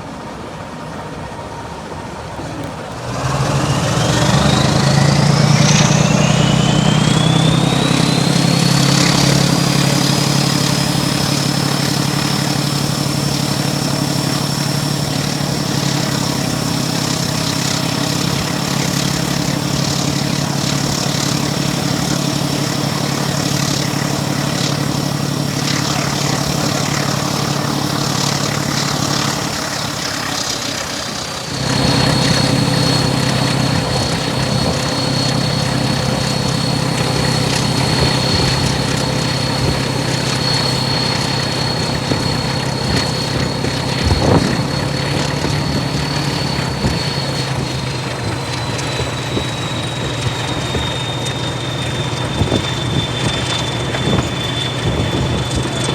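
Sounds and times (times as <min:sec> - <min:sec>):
diesel train engine running: 0:00.0 - 0:55.9.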